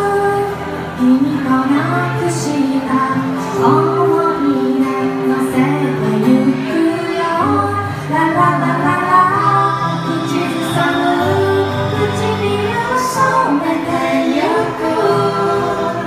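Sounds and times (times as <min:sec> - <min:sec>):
strummed ukuleles: 0:00.0 - 0:16.0
woman singing: 0:00.0 - 0:16.0.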